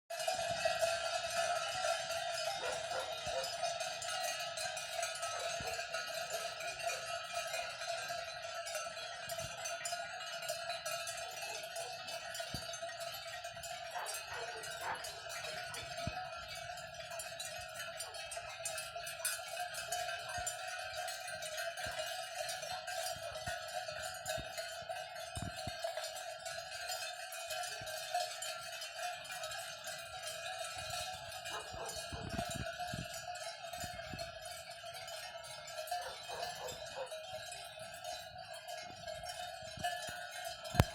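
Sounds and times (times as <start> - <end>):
cowbells clanking: 0.1 - 40.9.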